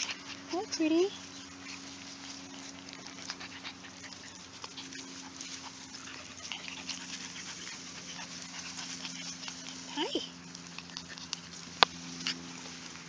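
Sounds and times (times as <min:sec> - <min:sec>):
puppies rustling in grass: 0:00.0 - 0:13.0.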